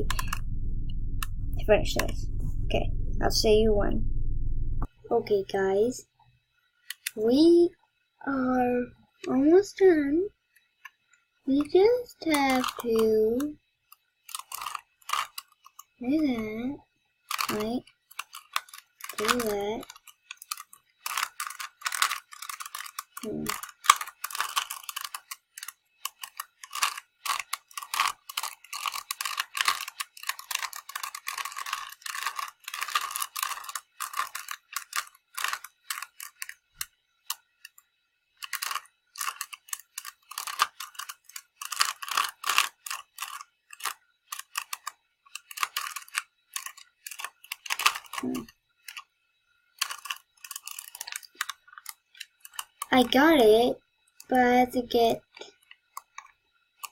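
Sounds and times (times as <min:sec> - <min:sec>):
puzzle cube clicking and rattling: 0:00.0 - 0:02.2, 0:06.9 - 0:07.2, 0:11.5 - 0:16.4, 0:17.2 - 0:49.1, 0:49.7 - 0:56.9.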